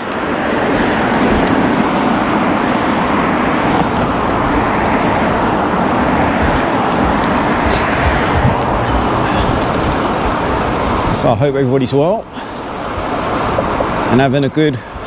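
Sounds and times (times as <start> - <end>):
road noise while cycling: 0.0 - 15.0
wind rushing over microphone: 0.0 - 15.0.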